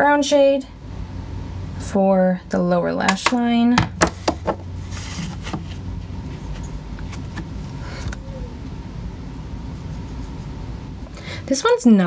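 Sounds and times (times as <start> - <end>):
faint hum: 0.0 - 12.0
low background rumble: 0.0 - 12.0.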